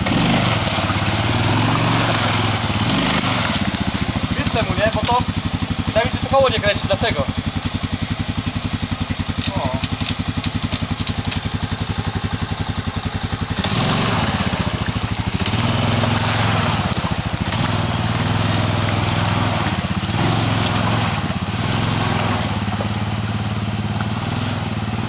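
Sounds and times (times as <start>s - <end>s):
atv engine idling and revving: 0.0s - 25.0s.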